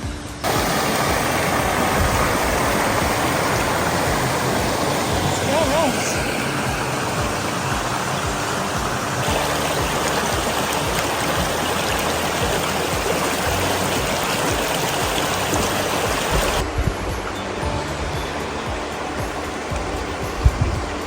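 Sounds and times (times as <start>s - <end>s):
stream rushing: 0.0s - 21.0s
low thumps: 0.4s - 21.0s.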